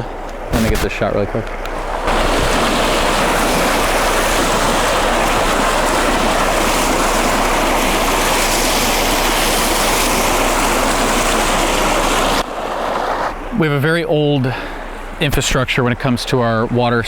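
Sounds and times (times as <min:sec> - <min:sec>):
water gushing from burst main: 0:00.0 - 0:17.0.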